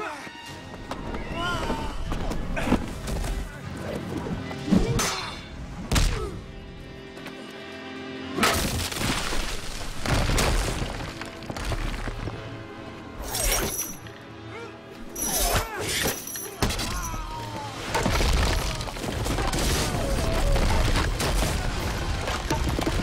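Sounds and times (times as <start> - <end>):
film soundtrack music: 0.0 - 23.0.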